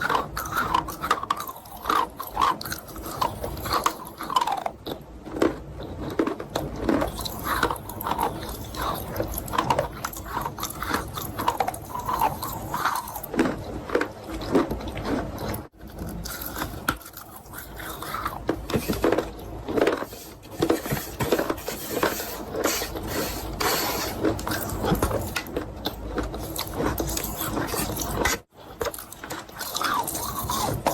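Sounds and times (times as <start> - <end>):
crunching and chewing chalk: 0.0 - 30.9.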